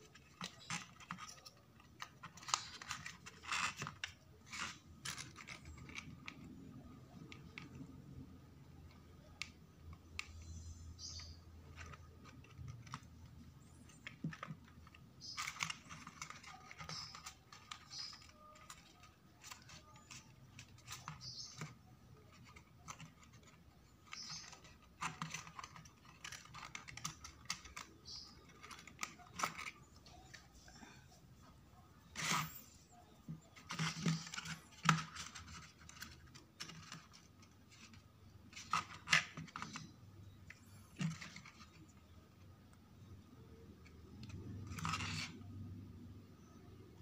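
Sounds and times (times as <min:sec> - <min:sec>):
small clicks and paper rustles: 0:00.0 - 0:47.0.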